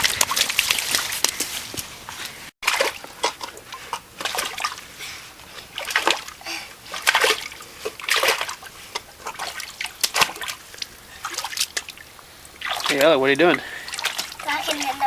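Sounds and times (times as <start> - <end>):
feet splashing through puddle: 0.0 - 4.9, 5.6 - 6.3, 6.9 - 12.0, 12.6 - 15.0.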